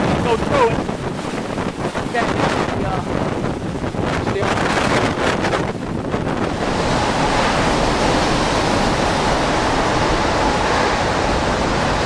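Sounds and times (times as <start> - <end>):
hurricane wind and rain: 0.0 - 12.0.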